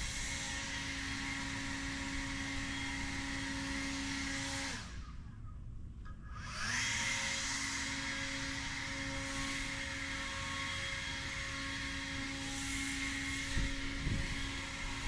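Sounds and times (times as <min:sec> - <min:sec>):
electric mower motors whirring: 0:00.0 - 0:05.4, 0:06.0 - 0:15.0.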